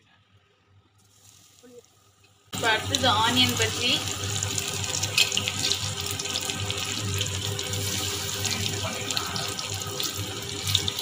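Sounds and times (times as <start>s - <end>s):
deep-frying in hot oil: 0.9s - 11.0s.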